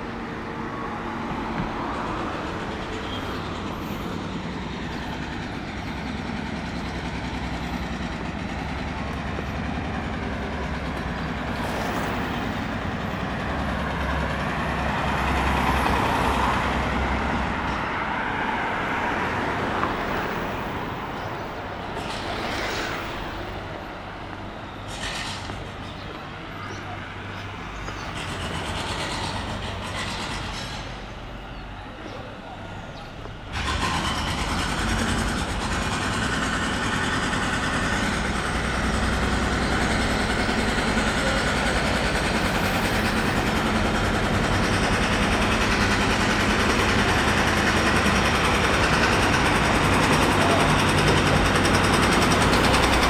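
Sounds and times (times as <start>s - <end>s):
heavy vehicle passing: 0.0s - 53.0s
light vehicles passing: 0.0s - 53.0s.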